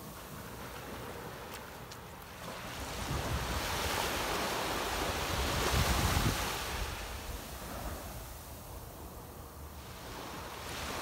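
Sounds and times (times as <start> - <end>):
wave washing onto sandy shore: 0.0 - 11.0
wind rumbling on microphone: 0.0 - 11.0.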